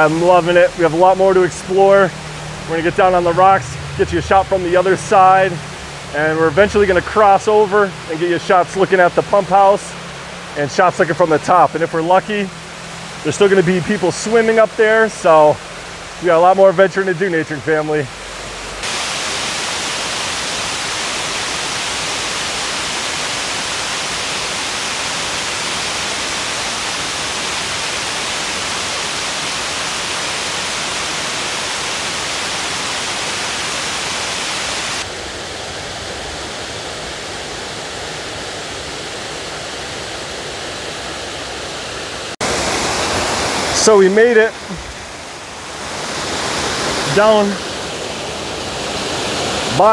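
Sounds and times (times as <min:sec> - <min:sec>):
water cascading down spillway: 0:00.0 - 0:49.9.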